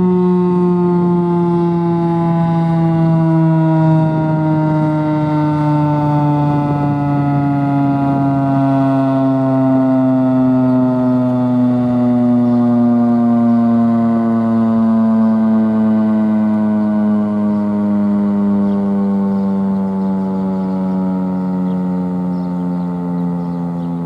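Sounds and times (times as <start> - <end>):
tornado siren winding down: 0.0 - 24.0.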